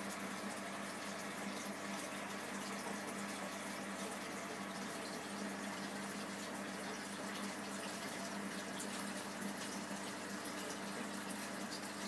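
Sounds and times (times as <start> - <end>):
aquarium air stone bubbling: 0.0 - 12.0
faint equipment hum: 0.0 - 12.0.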